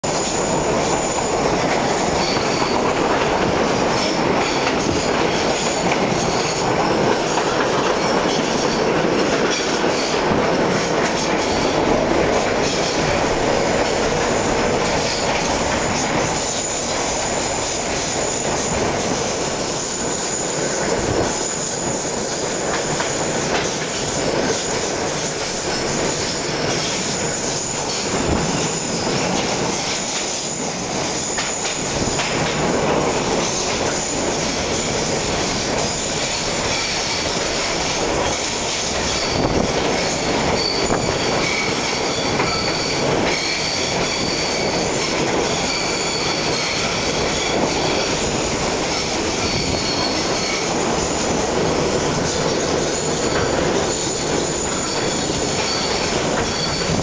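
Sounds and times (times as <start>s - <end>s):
train wheels rumbling and rattling: 0.0s - 57.0s.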